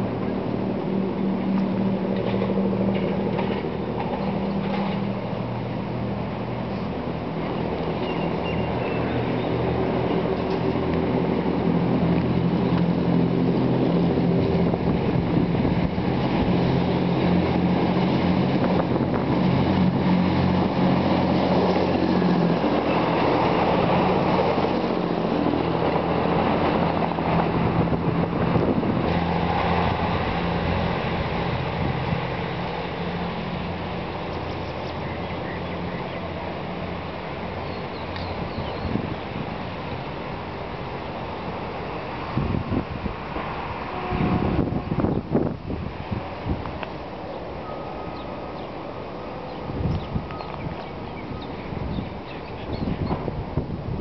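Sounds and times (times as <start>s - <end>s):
diesel train engine hum: 0.0s - 54.0s
wheels rumbling on rails: 0.0s - 54.0s.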